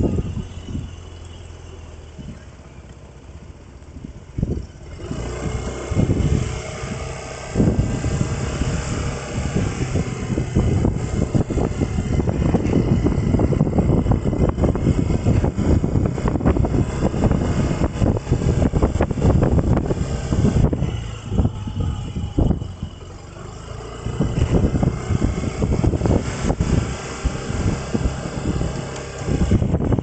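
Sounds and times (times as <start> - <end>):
wind buffeting microphone: 0.0 - 2.6, 3.3 - 30.0
vehicle engine pulling away: 0.0 - 30.0.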